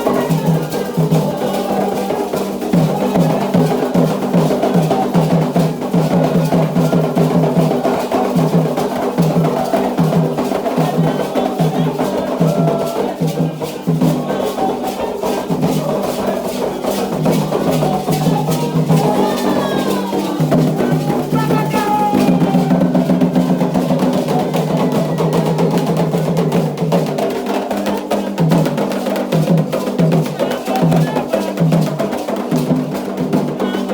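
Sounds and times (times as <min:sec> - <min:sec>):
hand drums playing a rhythm: 0:00.0 - 0:33.9.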